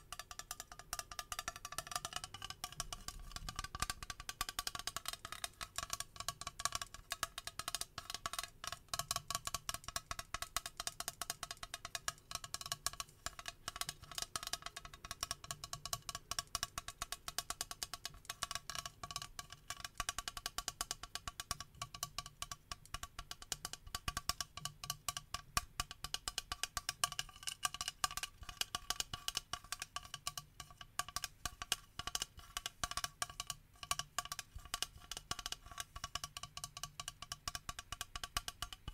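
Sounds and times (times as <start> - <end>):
rapid tapping on plastic bottle: 0.0 - 38.9.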